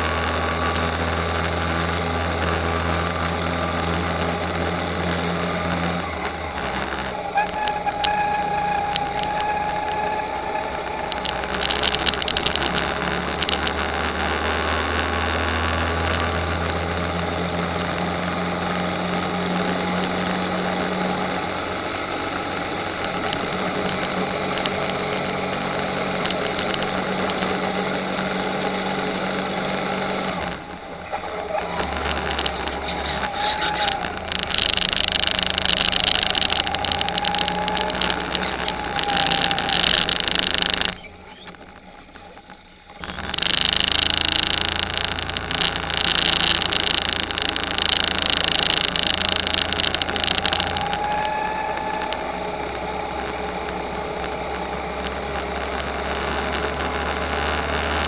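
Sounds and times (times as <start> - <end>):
go-kart engine running: 0.0 - 58.0
road and wind noise: 0.0 - 58.0.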